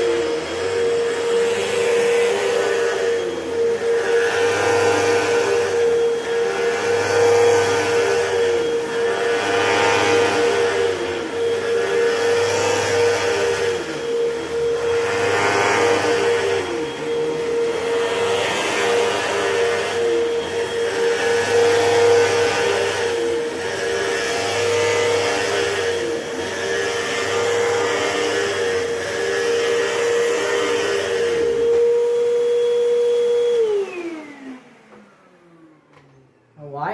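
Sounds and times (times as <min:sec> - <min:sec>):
vacuum cleaner motor whine: 0:00.0 - 0:36.9.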